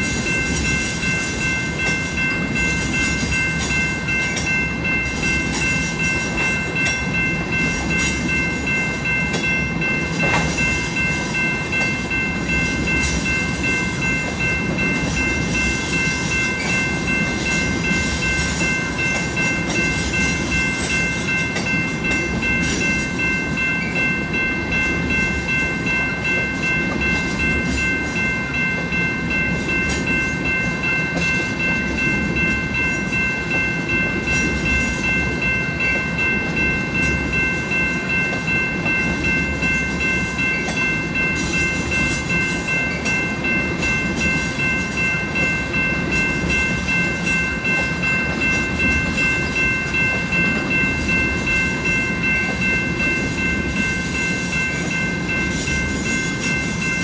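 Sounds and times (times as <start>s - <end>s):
crossing warning bell ringing: 0.0s - 57.0s
train wheel clatter: 0.0s - 57.0s.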